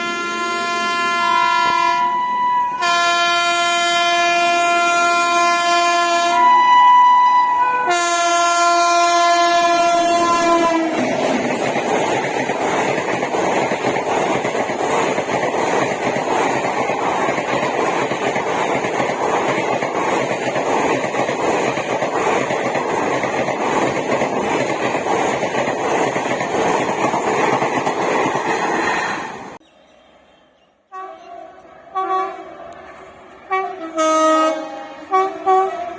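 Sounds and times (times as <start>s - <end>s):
train rushing past: 0.0s - 29.6s.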